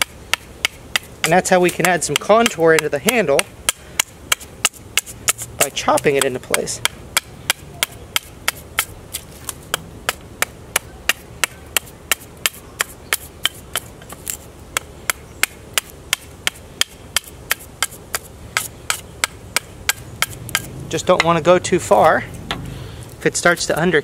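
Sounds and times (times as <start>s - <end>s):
knife chopping wood: 0.0s - 21.4s.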